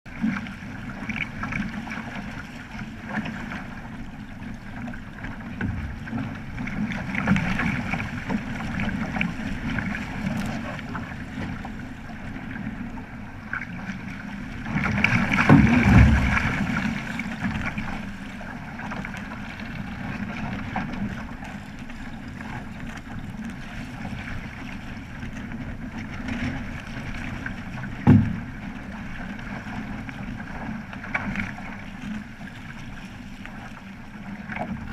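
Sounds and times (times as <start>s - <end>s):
water rushing along a boat hull: 0.1s - 34.9s.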